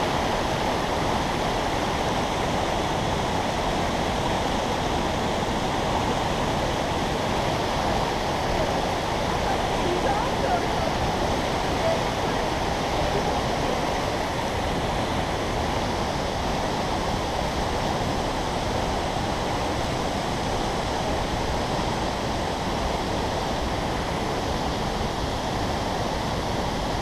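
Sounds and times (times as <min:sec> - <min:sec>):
waterfall and stream rushing: 0:00.0 - 0:27.0.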